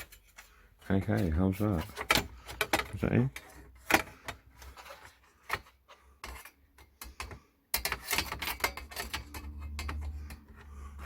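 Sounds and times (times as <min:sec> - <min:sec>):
plastic cover clicking and rubbing: 0:00.0 - 0:10.5.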